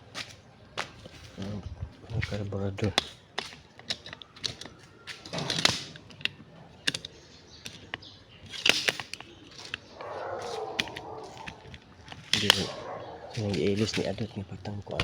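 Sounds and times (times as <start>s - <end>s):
small hard objects clicking: 2.1s - 15.0s.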